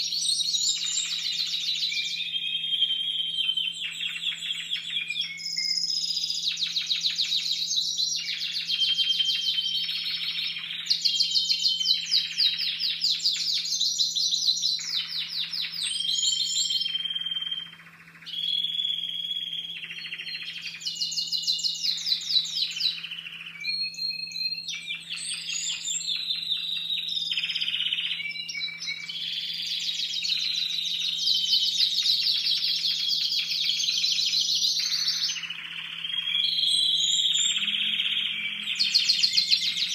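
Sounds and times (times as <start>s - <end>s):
canaries singing: 0.0s - 39.9s.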